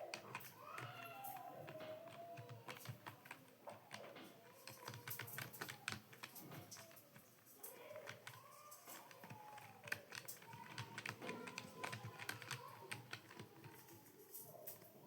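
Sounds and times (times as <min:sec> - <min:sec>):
computer keyboard typing: 0:00.0 - 0:15.0.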